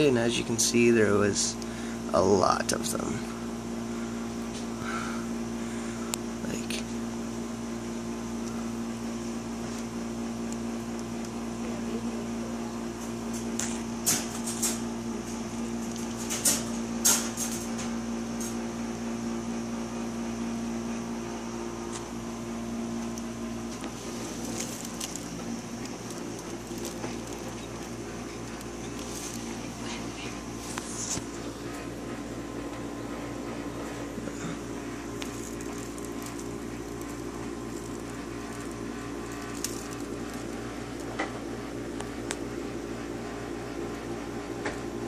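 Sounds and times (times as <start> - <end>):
aquarium filter humming: 0.0 - 45.0.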